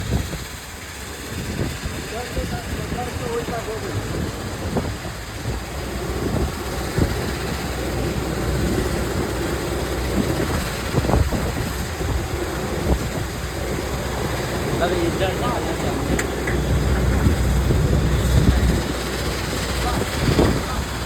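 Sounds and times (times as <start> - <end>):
excavator diesel engine rumbling: 0.0 - 21.0.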